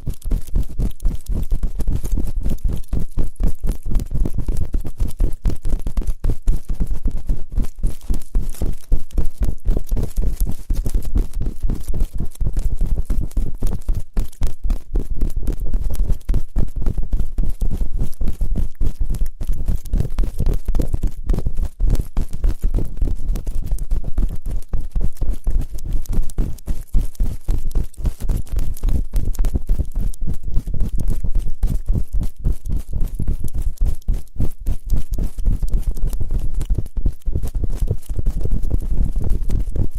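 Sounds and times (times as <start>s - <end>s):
scratching and rubbing on microphone: 0.0s - 39.9s.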